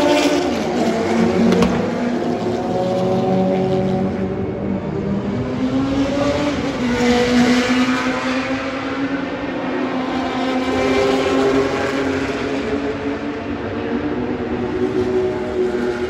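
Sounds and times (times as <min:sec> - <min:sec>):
race cars passing: 0:00.0 - 0:16.0.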